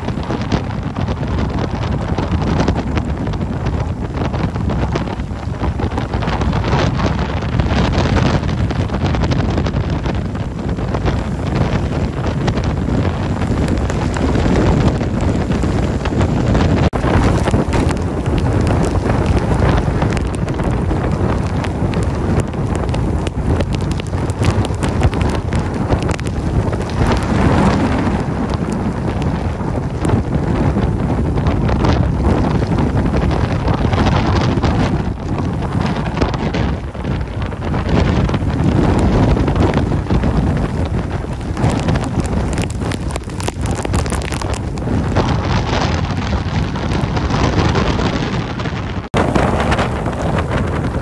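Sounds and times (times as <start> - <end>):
driving rain: 0.0 - 51.0
wind buffeting microphone: 0.0 - 51.0.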